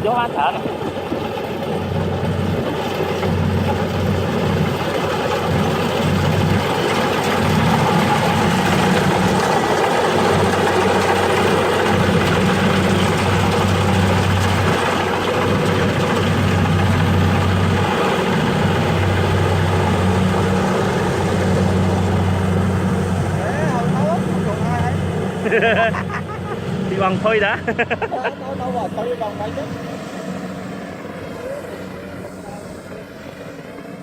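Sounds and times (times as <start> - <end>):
machine engine running: 0.0 - 34.0.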